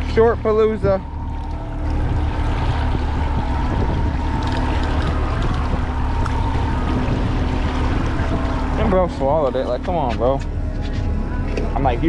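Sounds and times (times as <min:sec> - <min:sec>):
boat motor running: 0:00.0 - 0:12.0
water noise: 0:00.0 - 0:12.0
wind: 0:00.0 - 0:12.0.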